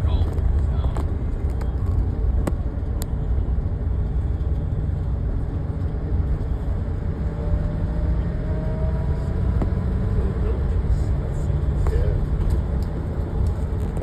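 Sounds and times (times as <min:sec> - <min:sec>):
car interior road and engine noise: 0:00.0 - 0:14.0.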